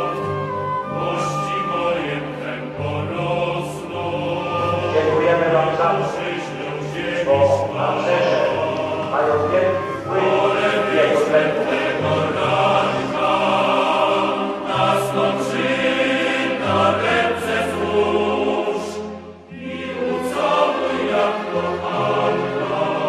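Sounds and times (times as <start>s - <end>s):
choir singing: 0.0s - 23.0s
low musical accompaniment: 0.0s - 23.0s.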